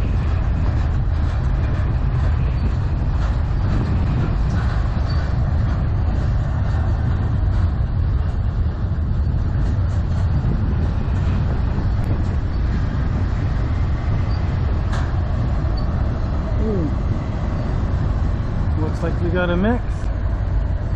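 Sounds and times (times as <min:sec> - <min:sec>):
freight train rumbling past: 0:00.0 - 0:20.9
wind buffeting microphone: 0:00.0 - 0:20.9.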